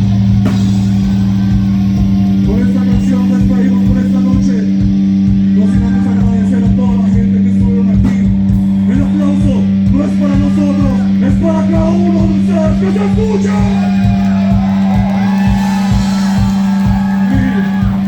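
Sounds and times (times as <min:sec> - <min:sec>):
rock band playing loudly: 0:00.0 - 0:18.0
steady drum beat: 0:00.0 - 0:18.0.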